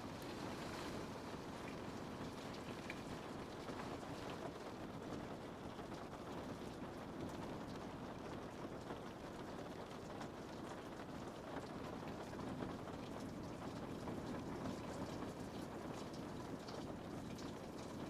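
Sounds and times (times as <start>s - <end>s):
rain on a window pane: 0.0s - 18.0s.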